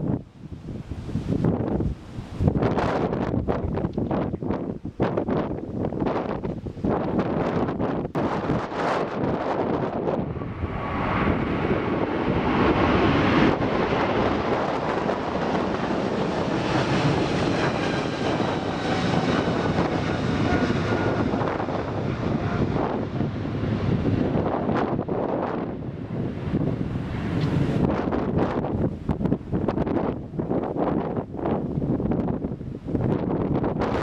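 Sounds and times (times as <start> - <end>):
jet engines roaring: 0.0 - 34.0
wind buffeting microphone: 0.0 - 34.0.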